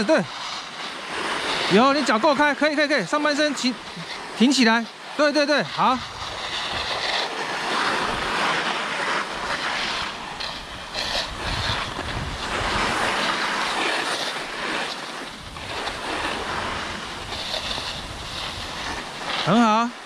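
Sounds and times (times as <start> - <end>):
skis scraping on snow: 0.0 - 20.0
wind rumbling on microphone: 0.0 - 20.0.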